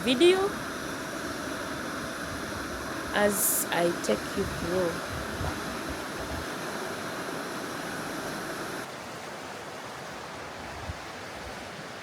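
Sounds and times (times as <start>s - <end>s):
river rushing through gorge: 0.0s - 12.0s.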